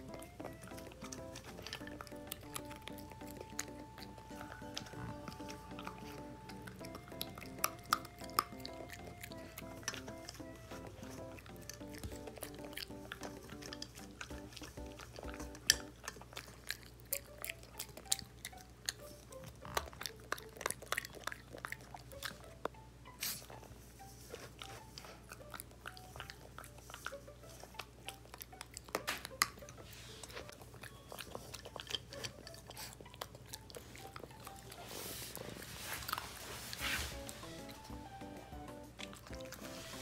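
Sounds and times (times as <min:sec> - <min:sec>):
dog crunching and chewing kibble: 0:00.0 - 0:40.0.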